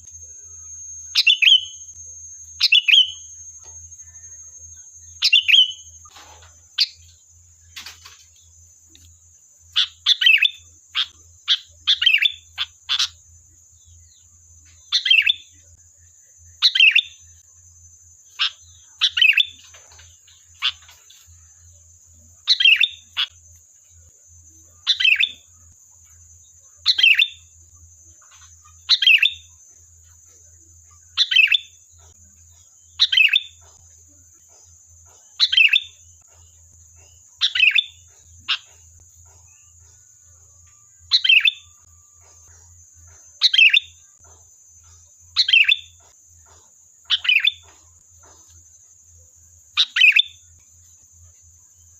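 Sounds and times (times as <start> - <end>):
bird chattering song: 0.0 - 17.5, 18.1 - 51.9.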